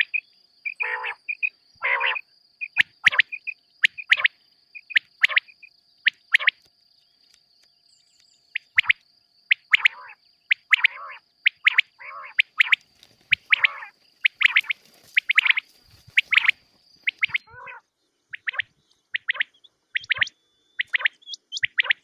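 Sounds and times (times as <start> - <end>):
quail calling: 0.0 - 6.6, 8.5 - 22.0.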